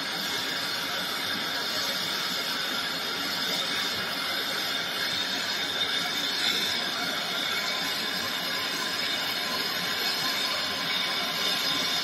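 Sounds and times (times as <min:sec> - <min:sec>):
gas torch flame hissing: 0:00.0 - 0:12.0.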